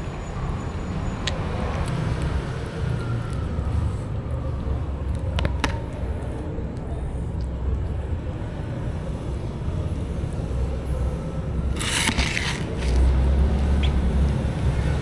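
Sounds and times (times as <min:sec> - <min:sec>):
low market rumble: 0:00.0 - 0:15.0.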